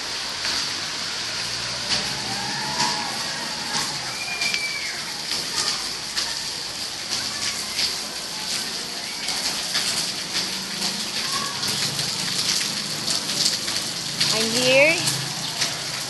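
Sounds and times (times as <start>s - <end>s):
heavy rain hissing: 0.0s - 16.0s
raindrops splashing: 0.0s - 16.0s.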